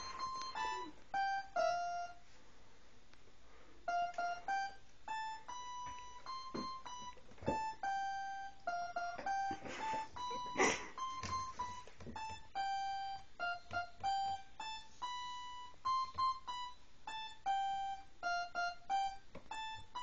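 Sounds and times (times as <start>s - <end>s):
electronic keyboard notes: 0.0s - 2.3s, 3.8s - 20.0s.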